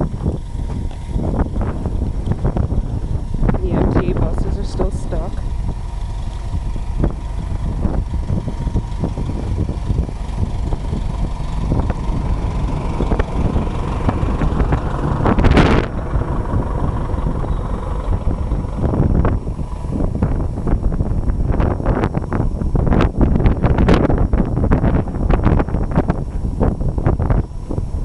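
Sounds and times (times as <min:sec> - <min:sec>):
steady low rumble: 0:00.0 - 0:28.0
wind buffeting microphone: 0:00.0 - 0:28.0.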